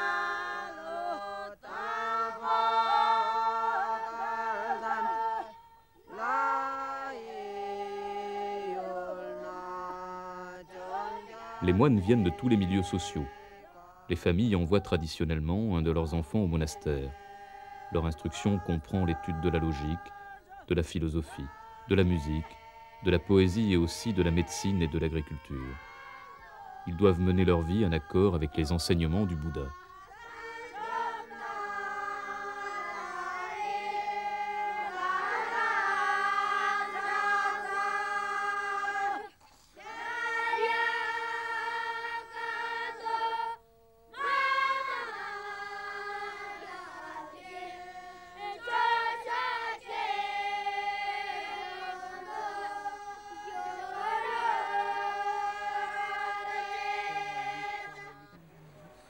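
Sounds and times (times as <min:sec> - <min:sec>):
children chanting in unison: 0:00.0 - 0:43.6, 0:44.2 - 0:59.0.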